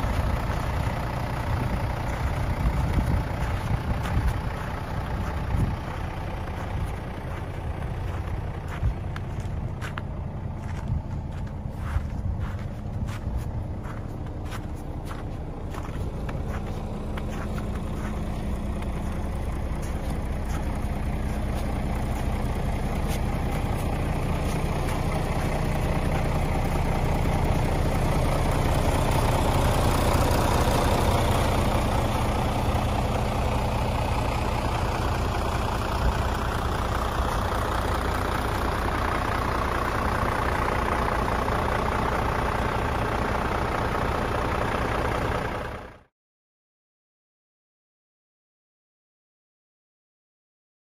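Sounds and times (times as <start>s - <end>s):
diesel truck idling: 0.0s - 46.1s.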